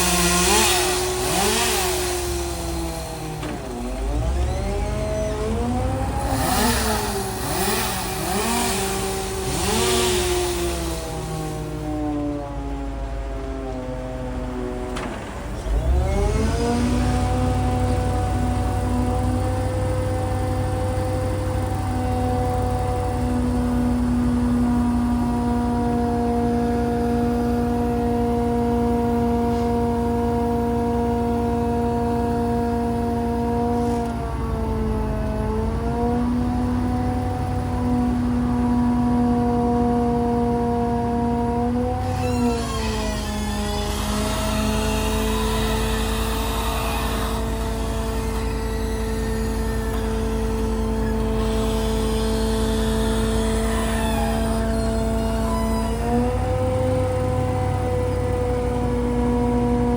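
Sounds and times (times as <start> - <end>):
chainsaw revving: 0.0 - 12.3, 15.7 - 58.2
larger engine droning: 0.0 - 59.9.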